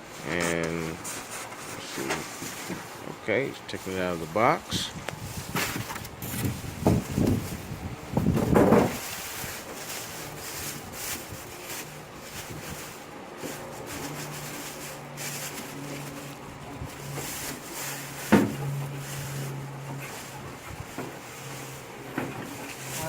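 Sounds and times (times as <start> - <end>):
cardboard scraping and rustling: 0.1 - 3.2, 3.8 - 23.0.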